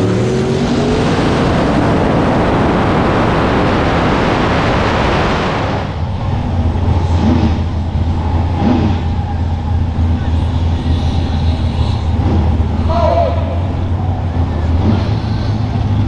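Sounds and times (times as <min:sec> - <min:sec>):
idling drag car engine rumble: 0:00.0 - 0:16.0
truck engine roaring at full throttle: 0:00.0 - 0:16.0.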